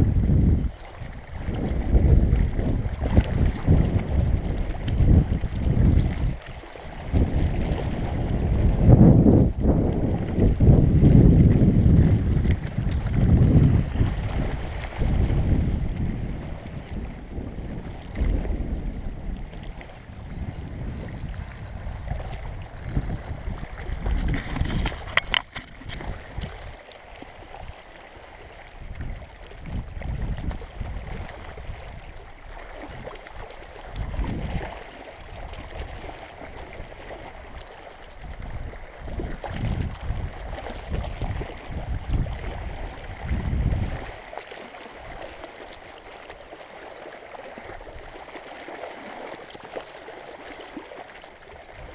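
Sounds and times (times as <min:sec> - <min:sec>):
wind buffeting the microphone: 0:00.0 - 0:44.4, 0:51.4 - 0:51.9
waves lapping on pebbles: 0:00.0 - 0:51.9.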